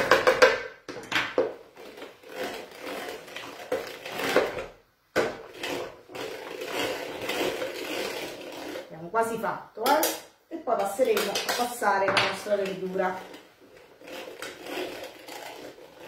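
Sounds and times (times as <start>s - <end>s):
food mill scraping and grinding: 1.3s - 16.0s.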